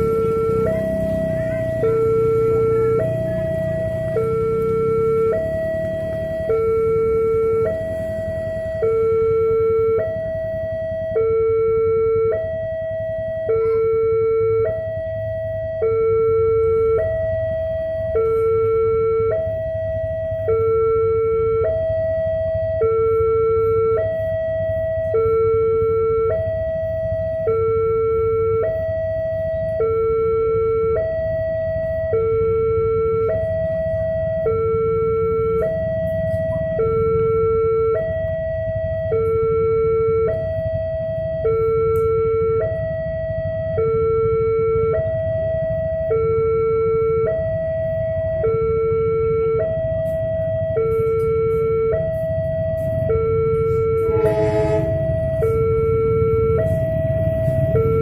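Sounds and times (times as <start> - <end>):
level crossing two-tone alarm: 0.0 - 58.0.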